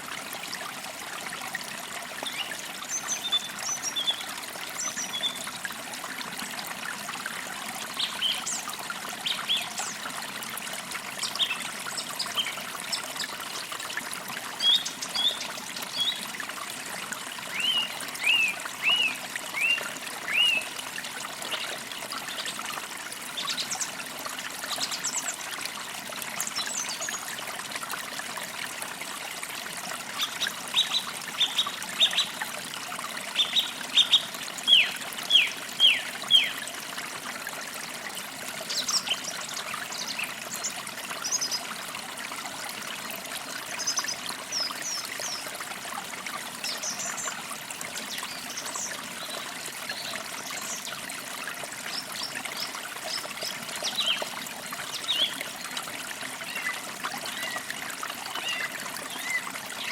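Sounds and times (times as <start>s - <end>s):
creek water trickling: 0.0s - 59.9s.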